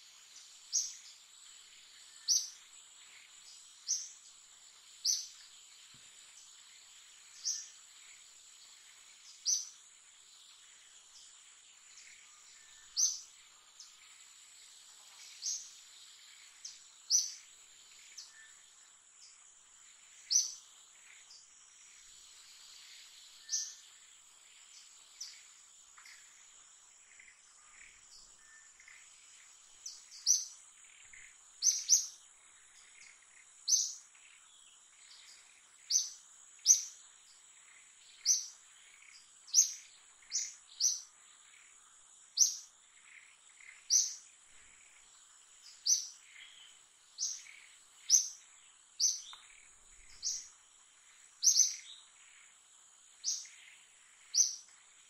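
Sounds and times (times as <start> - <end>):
high-pitched insect whine: 0.0 - 55.0.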